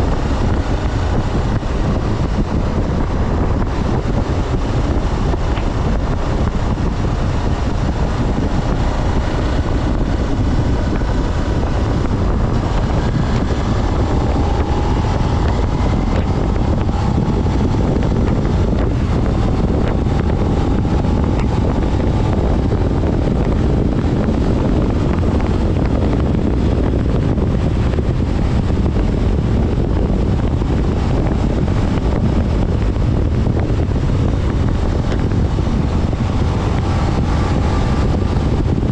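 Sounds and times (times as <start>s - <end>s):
faint motorcycle engine: 0.0s - 38.9s
wind noise on microphone: 0.0s - 38.9s.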